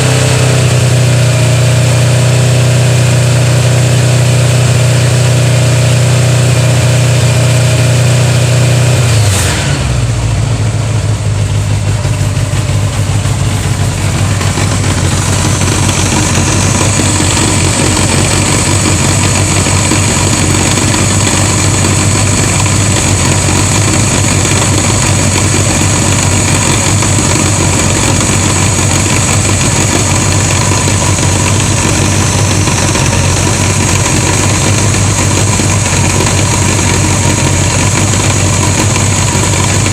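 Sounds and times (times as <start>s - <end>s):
motorcycle engine idling: 0.0s - 9.1s, 10.0s - 39.9s.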